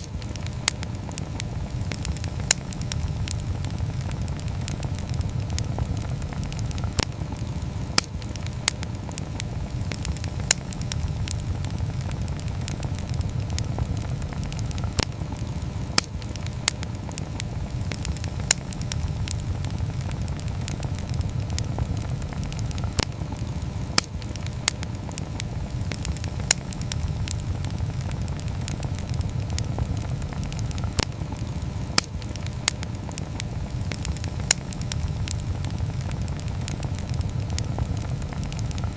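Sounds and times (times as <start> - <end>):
campfire burning: 0.0 - 38.9
fire crackling and popping: 0.0 - 38.9.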